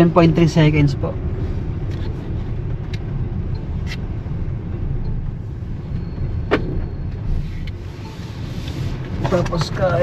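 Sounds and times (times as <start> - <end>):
road and tyre rumble: 0.0 - 10.0.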